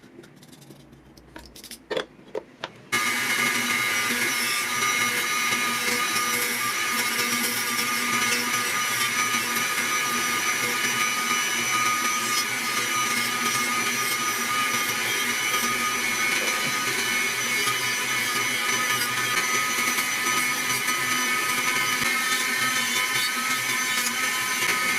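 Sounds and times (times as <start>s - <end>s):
power tool motor whining: 2.9s - 24.9s.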